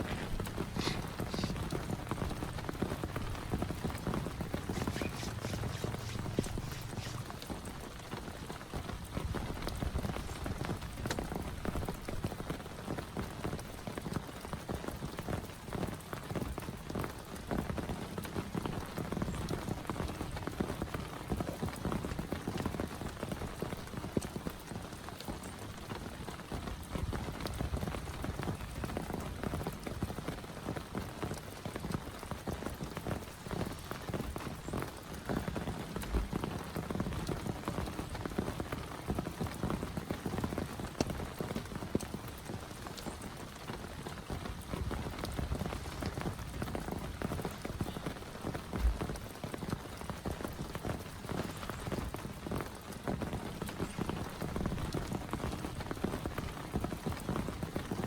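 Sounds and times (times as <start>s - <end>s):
close raindrops pattering: 0.0s - 58.0s
heavy rain falling: 0.0s - 58.0s.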